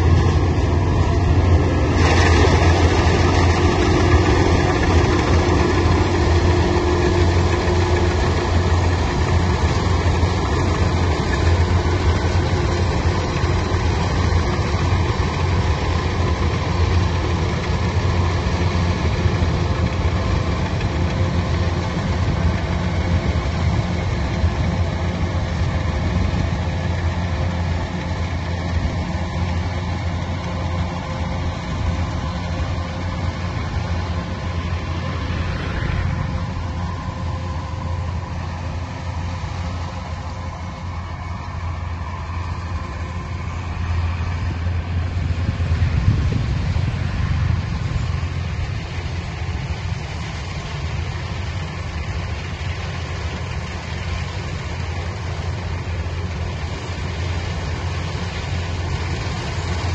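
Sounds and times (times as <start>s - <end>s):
machine engine humming: 0.0s - 59.9s.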